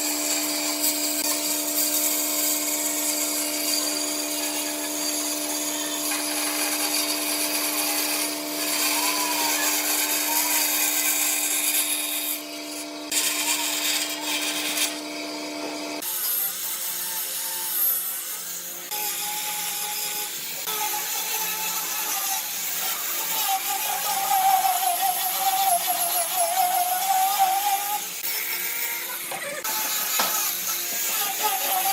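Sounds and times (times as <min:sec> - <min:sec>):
power tool motor humming: 0:00.0 - 0:31.9
power tool with wavering pitch: 0:00.0 - 0:31.9.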